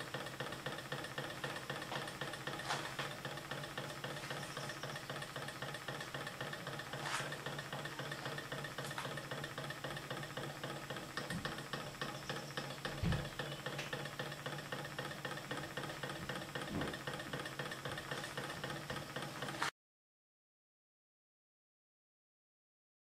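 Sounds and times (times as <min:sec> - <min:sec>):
engine ticking rapidly: 0:00.0 - 0:19.7
steady low hum: 0:00.0 - 0:19.7.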